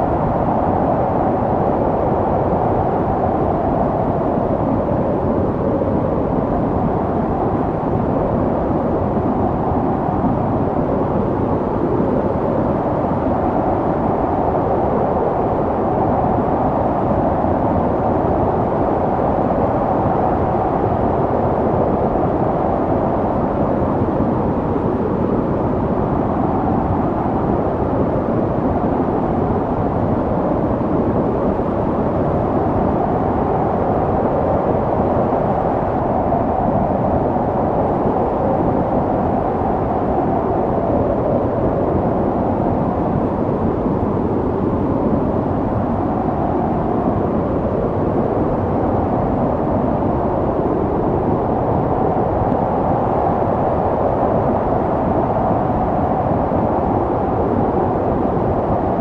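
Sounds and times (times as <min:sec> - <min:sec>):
snowstorm wind blowing: 0:00.0 - 0:59.0.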